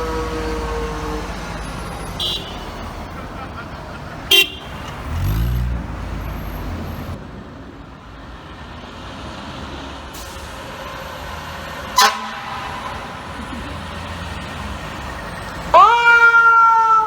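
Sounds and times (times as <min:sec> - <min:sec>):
truck diesel engine running: 0:00.0 - 0:07.4, 0:08.4 - 0:15.9.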